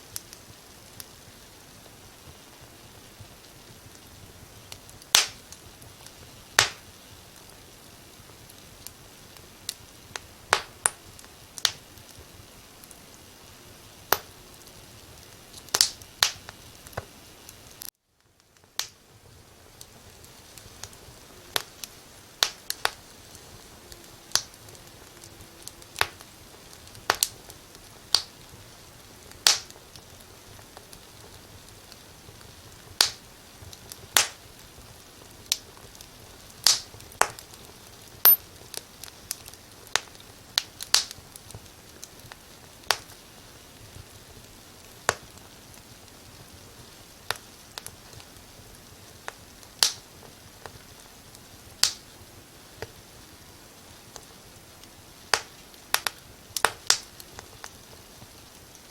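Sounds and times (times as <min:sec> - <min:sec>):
low steady hiss: 0:00.0 - 0:58.9
wood fire crackling: 0:00.0 - 0:58.9.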